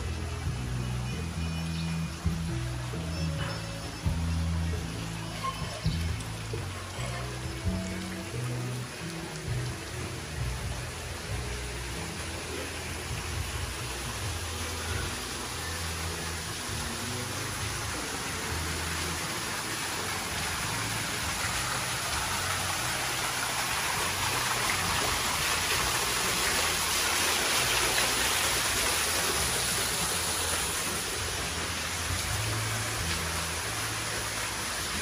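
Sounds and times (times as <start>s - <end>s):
fountain water splashing: 0.0s - 35.0s.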